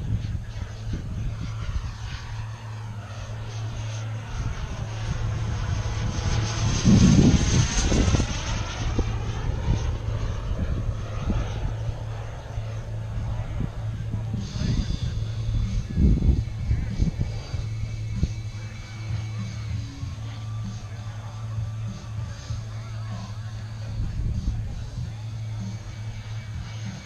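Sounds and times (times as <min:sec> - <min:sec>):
jet turbine whine flying past: 0:00.0 - 0:27.0.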